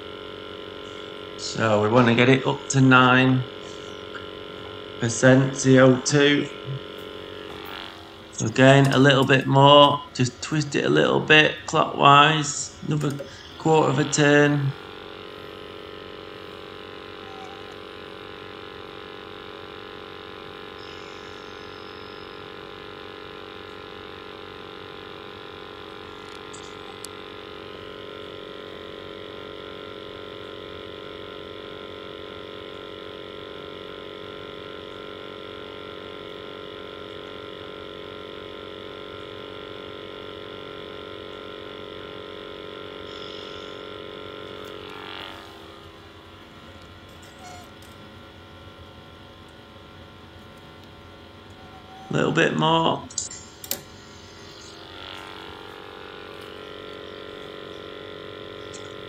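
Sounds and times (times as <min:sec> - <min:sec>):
boiler mechanical hum: 0:00.0 - 0:59.0.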